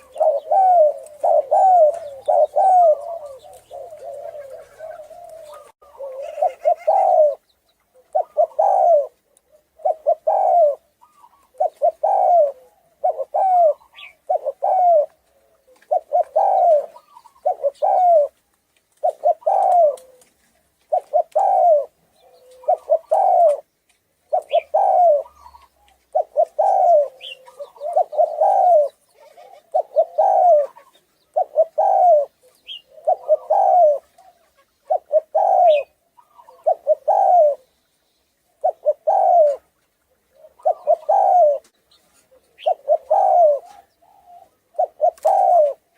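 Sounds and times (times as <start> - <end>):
dove cooing: 0.0 - 18.4, 19.0 - 23.7, 24.3 - 37.8, 38.5 - 45.9.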